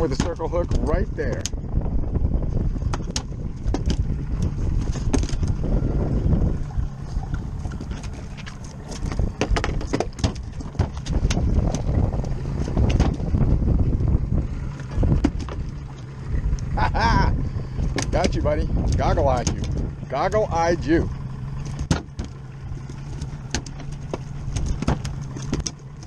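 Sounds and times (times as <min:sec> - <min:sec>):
low boat rumble: 0:00.0 - 0:26.0
wind buffeting microphone: 0:00.0 - 0:26.0.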